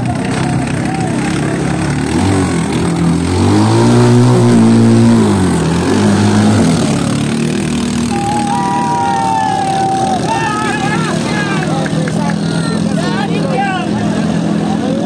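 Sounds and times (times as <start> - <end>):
boat engine revving: 0.0 - 15.0.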